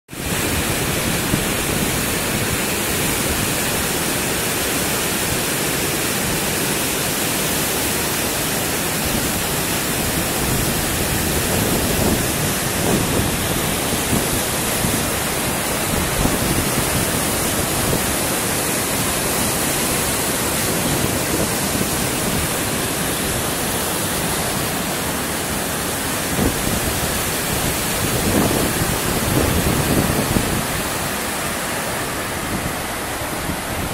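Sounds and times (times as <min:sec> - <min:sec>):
water rushing over weir: 0:00.1 - 0:33.9.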